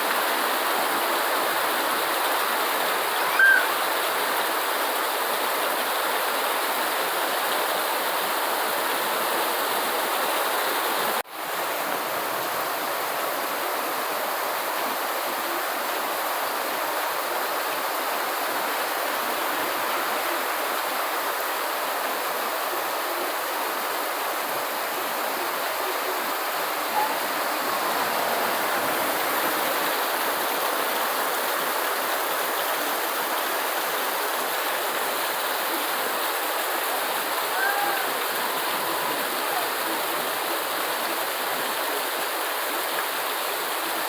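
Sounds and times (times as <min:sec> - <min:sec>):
dense rain: 0:00.0 - 0:44.0.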